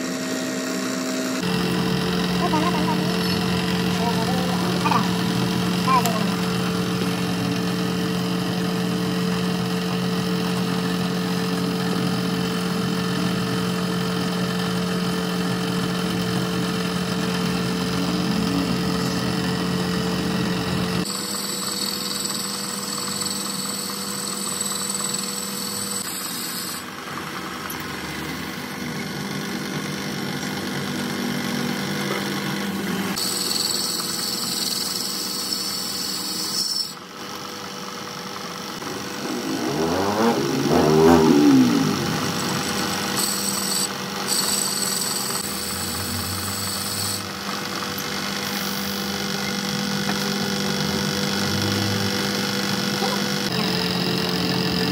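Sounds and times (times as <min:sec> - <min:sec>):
metal lathe humming: 0:00.0 - 0:54.9
boring tool cutting metal: 0:00.1 - 0:54.9.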